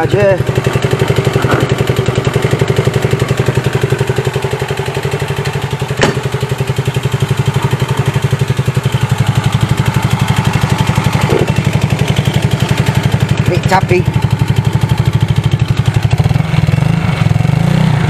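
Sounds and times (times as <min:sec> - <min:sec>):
scooter engine idling: 0:00.0 - 0:17.8.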